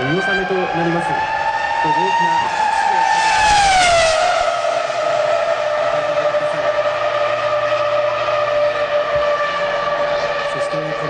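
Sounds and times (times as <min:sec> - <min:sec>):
race car engine passing by: 0:00.0 - 0:11.0.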